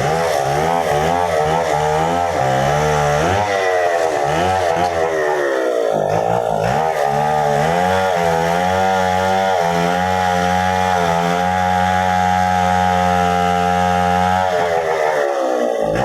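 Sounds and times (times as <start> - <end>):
chainsaw cutting into tree: 0.0 - 16.0.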